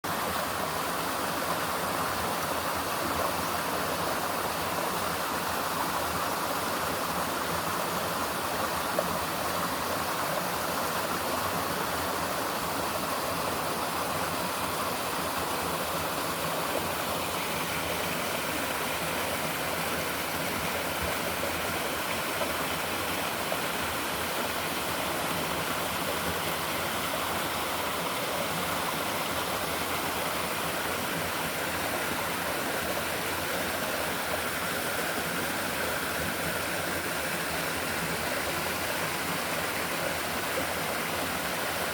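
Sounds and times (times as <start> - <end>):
river water over stones: 0.1 - 41.9.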